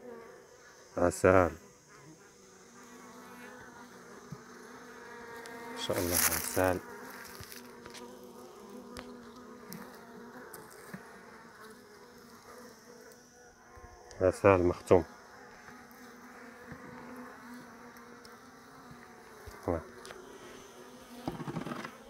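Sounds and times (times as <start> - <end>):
honeybees humming: 0.0 - 22.0.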